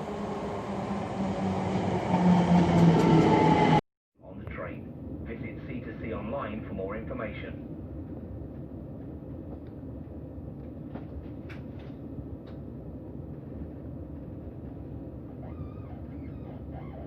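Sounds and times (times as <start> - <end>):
electric train rumble: 0.0 - 3.8, 4.6 - 16.7.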